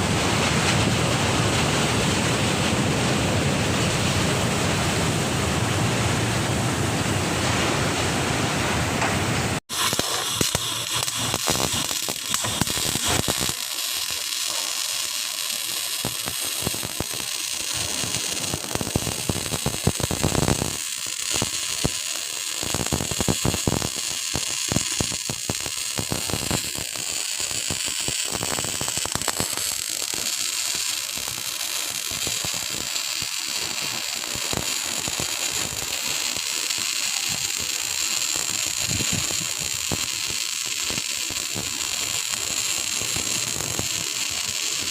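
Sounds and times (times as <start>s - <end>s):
welding arc crackling and hissing: 0.0s - 6.6s, 9.0s - 44.9s.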